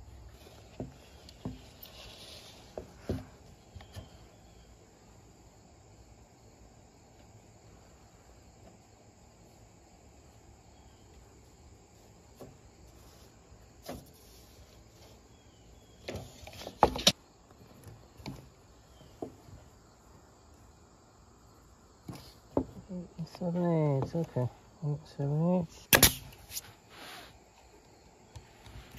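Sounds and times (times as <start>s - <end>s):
faint crickets: 0.0s - 28.9s.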